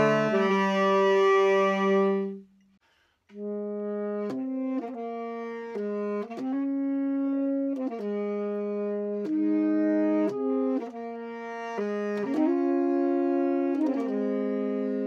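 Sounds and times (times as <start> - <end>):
tenor saxophone duet: 0.0 - 2.5, 3.3 - 15.0.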